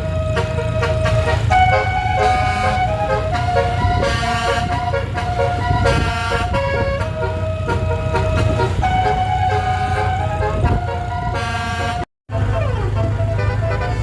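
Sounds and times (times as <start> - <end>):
low engine rumble: 0.0 - 14.0
musical air horns playing tune: 0.0 - 14.0.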